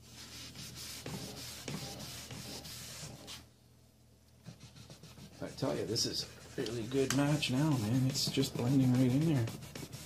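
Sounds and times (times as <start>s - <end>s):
cloth rubbing on wood: 0.0s - 3.5s, 4.4s - 10.0s.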